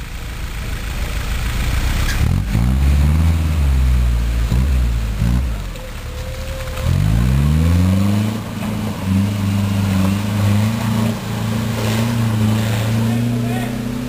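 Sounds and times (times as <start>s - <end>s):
engine revving in mud: 1.2s - 14.0s.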